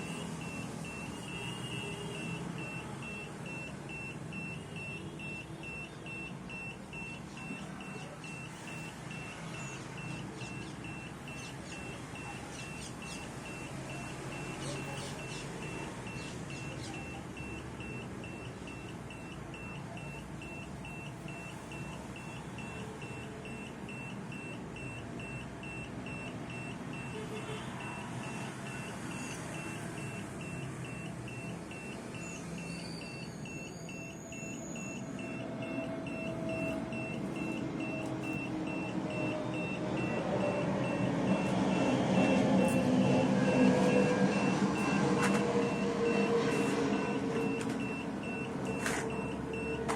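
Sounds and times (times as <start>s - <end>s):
alarm beeping rapidly: 0.0s - 49.9s.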